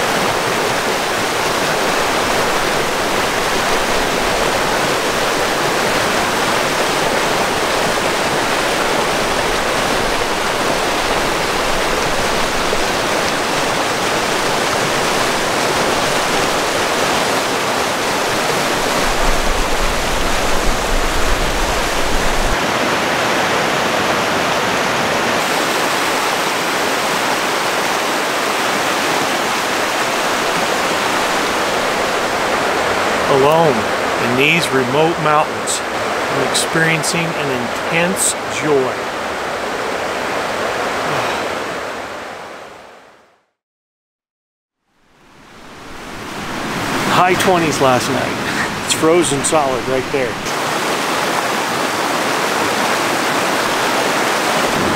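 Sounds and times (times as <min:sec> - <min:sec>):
river rushing over rocks: 0:00.0 - 0:42.8, 0:45.2 - 0:54.9.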